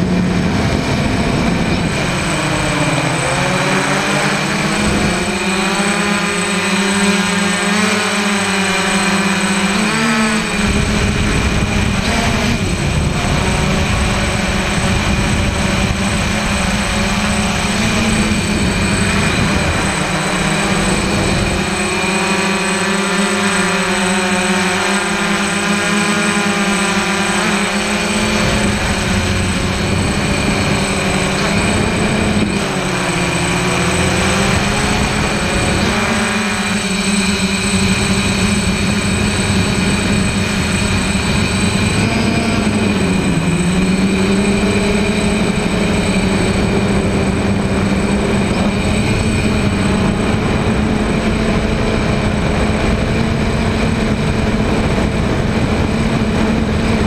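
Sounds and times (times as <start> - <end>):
drone propellers whining: 0.0 - 57.0
wind rumble on microphone: 0.0 - 57.0.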